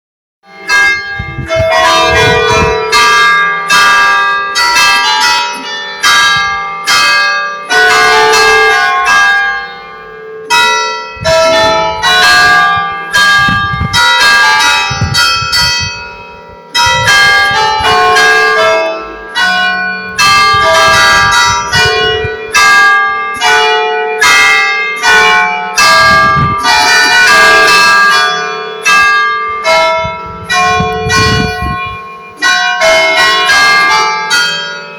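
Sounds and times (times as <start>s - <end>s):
church bells pealing: 0.4s - 34.9s.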